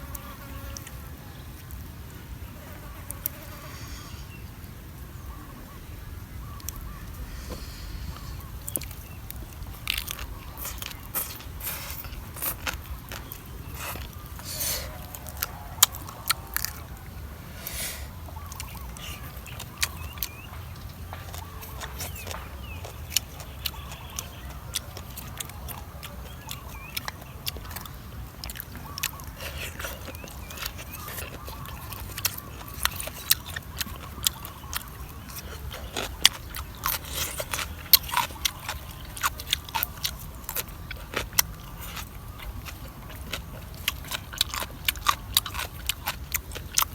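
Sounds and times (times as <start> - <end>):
person chewing crunchy food: 6.5 - 46.9.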